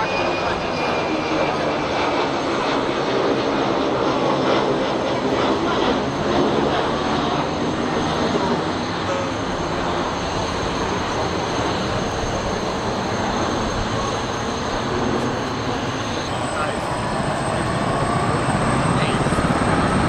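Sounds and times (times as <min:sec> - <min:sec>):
turbine engines roaring: 0:00.0 - 0:20.0.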